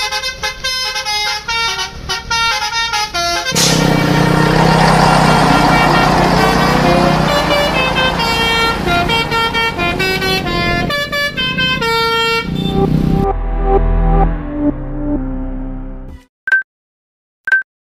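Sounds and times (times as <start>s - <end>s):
bus engine running: 0.0s - 14.8s
multi-tone bus horn melody: 0.0s - 16.1s.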